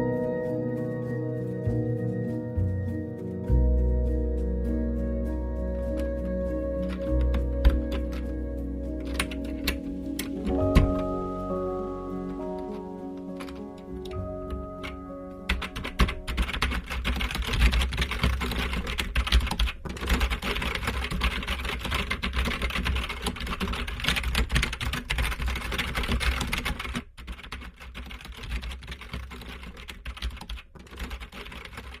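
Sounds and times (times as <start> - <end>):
rapid typing on keyboard: 5.0 - 32.0.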